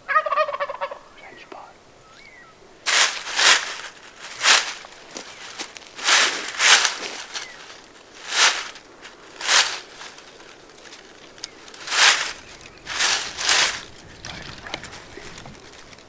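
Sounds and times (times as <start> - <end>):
dry leaves crunching: 2.8 - 16.0.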